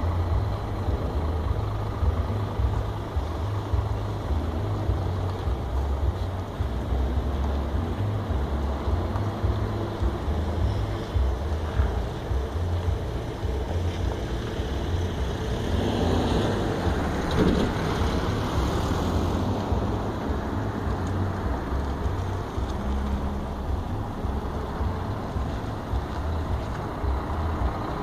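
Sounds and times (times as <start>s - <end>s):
diesel coach engine rumbling: 0.0s - 28.0s
rush of noise: 0.0s - 28.0s.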